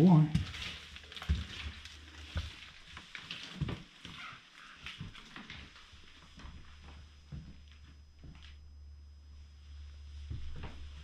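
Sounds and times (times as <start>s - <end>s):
low steady hum: 0.0s - 11.0s
footsteps on wooden floorboards: 0.3s - 8.6s, 10.2s - 11.0s.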